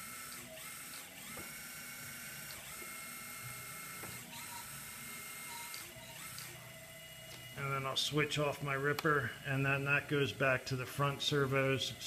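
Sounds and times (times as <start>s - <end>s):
electric hydraulic pump whining: 0.0s - 12.0s.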